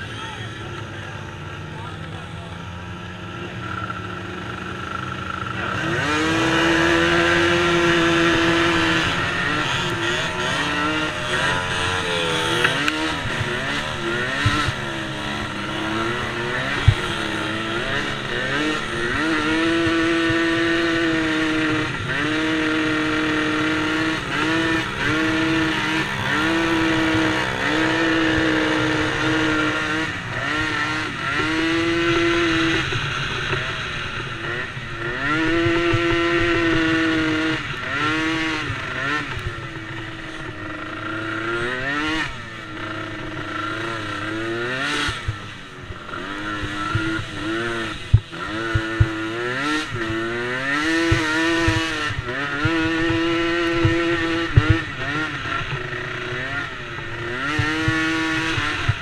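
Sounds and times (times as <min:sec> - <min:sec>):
small race engines revving: 0:00.0 - 0:59.0.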